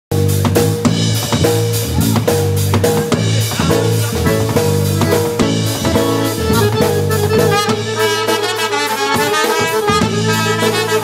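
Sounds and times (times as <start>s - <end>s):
drum kit kick and snare: 0.1s - 11.0s
polka band playing: 0.1s - 11.0s.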